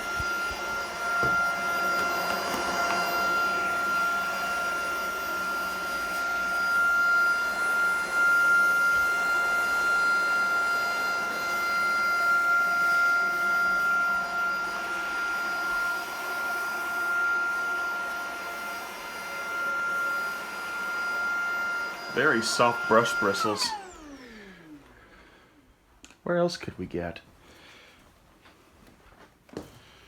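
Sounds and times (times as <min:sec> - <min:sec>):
vacuum cleaner motor whine: 0:00.0 - 0:25.6.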